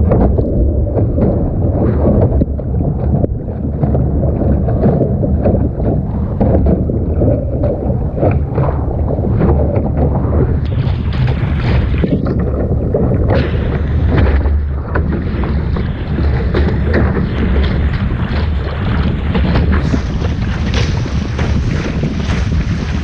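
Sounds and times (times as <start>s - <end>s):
water rushing and splashing: 0.0s - 23.0s
wind buffeting microphone: 0.0s - 23.0s.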